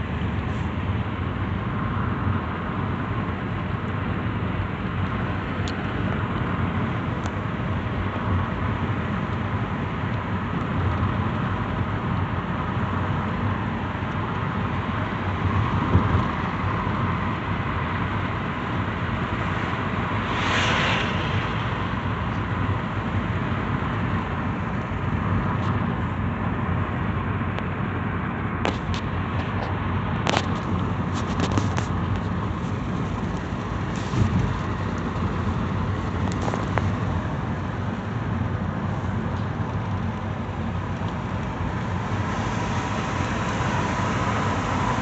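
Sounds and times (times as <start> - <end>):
car road and engine noise: 0.0 - 45.0.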